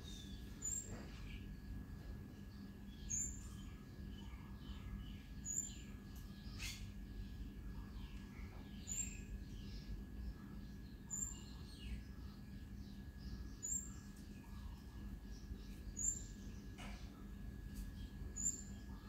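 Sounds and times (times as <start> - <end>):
bird chirping: 0.0 - 19.0
faint bird twittering: 0.0 - 19.0
low steady hum: 0.0 - 19.0.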